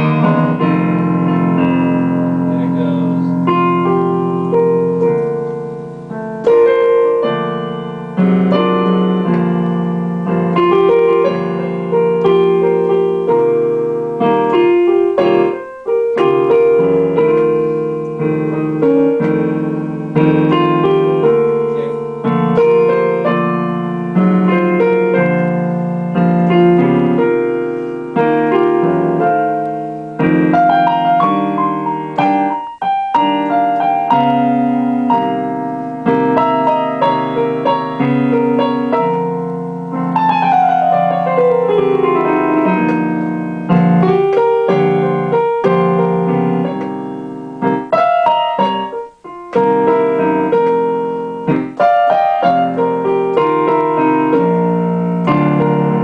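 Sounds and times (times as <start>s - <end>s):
blues on electric piano: 0.0s - 56.0s.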